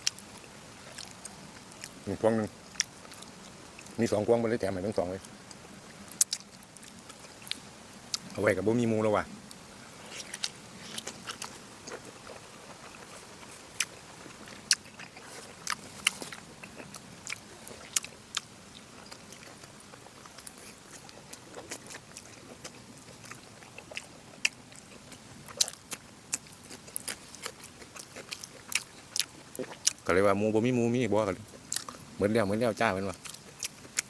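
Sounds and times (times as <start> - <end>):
person chewing food: 0.0 - 2.0, 2.7 - 4.0, 5.5 - 8.4, 9.4 - 30.0, 31.4 - 32.1, 33.1 - 34.0.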